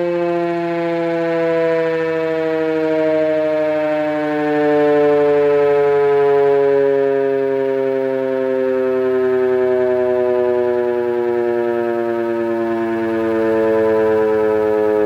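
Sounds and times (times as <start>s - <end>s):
electric siren wailing: 0.0s - 15.0s.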